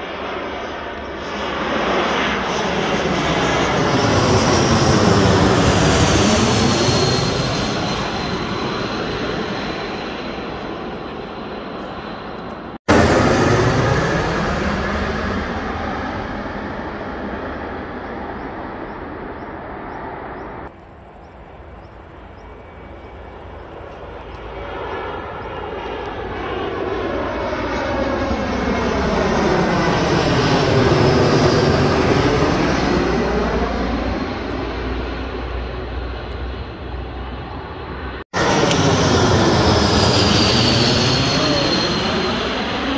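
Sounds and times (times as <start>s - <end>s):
jet airliner passing overhead: 0.0s - 42.9s
previous aircraft noise: 0.0s - 42.9s.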